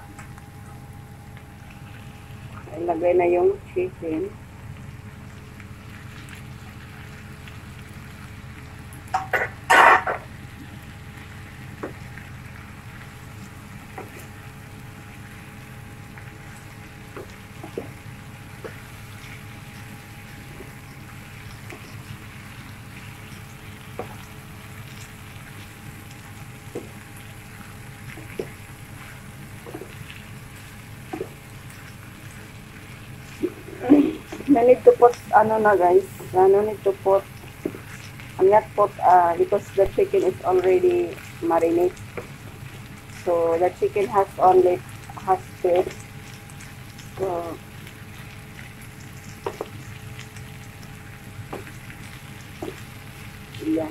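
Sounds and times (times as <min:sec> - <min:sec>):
faint steady hum: 0:00.0 - 0:53.9
food sizzling in a pan: 0:04.6 - 0:53.9.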